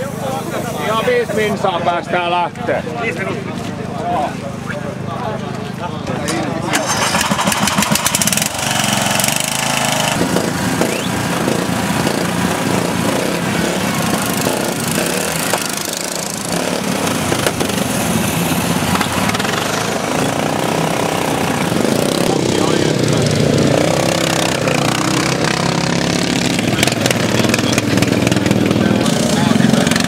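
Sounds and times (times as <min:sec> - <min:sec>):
lawn mower engines revving: 0:00.0 - 0:30.0.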